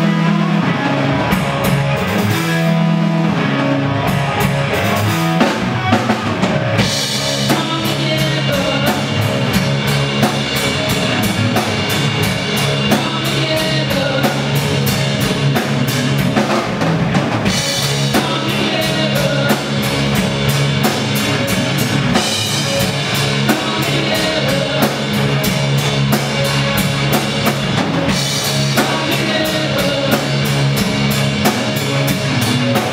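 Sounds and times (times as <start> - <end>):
drum kit beat: 0.0 - 32.9
electric bass guitar: 0.0 - 32.9
electric guitar: 0.0 - 32.9.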